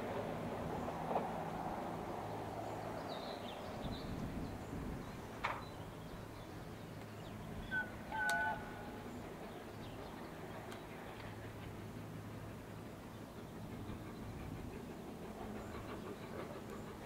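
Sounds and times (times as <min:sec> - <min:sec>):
distant trains humming: 0:00.0 - 0:17.0.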